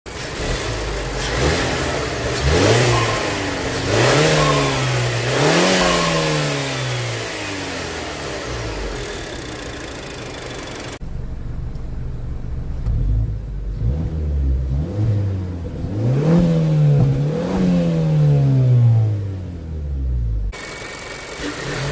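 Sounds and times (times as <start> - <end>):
car engine idling: 0.1 - 16.1, 18.8 - 21.9
car engine revving: 0.1 - 21.9.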